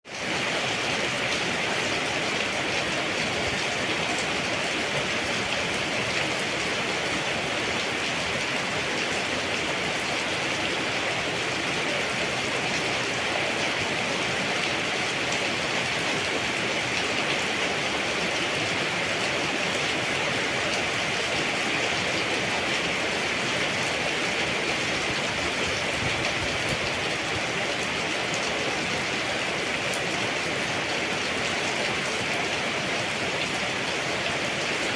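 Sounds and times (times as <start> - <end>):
steady rain with dripping patter: 0.0 - 34.9.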